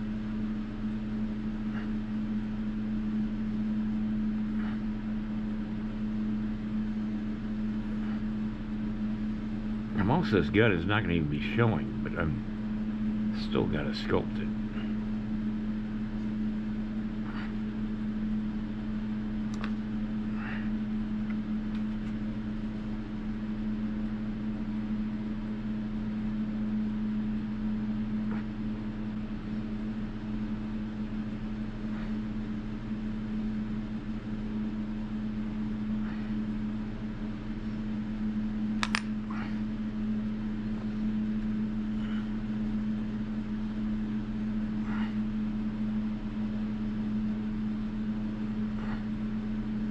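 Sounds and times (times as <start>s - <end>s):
low mechanical hum: 0.0s - 49.9s.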